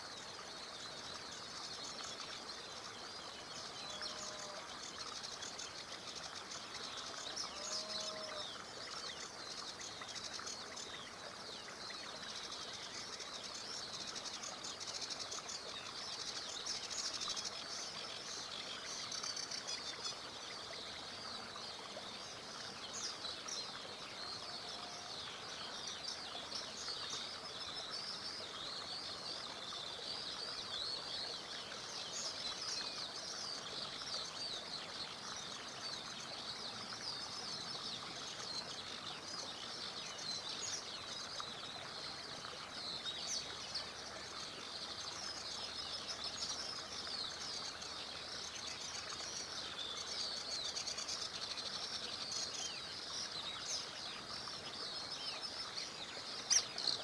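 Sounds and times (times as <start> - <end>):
small river rushing: 0.0 - 57.0
songbirds chirping and trilling: 0.0 - 57.0.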